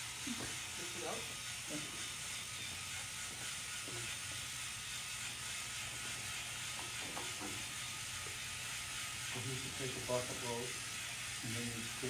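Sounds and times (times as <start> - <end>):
electric motors and gears whirring: 0.0 - 12.0.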